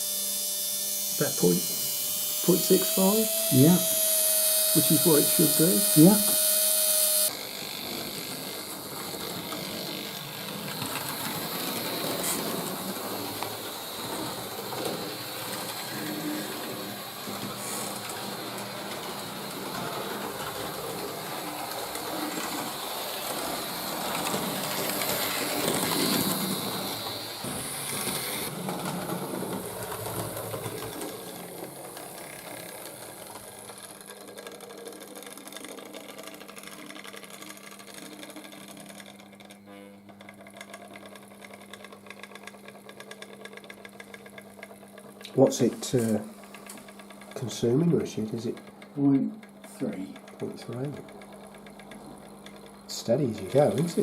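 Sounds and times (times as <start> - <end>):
toy train motor whirring: 0.0 - 54.0
gears and wheels rattling: 7.2 - 54.0.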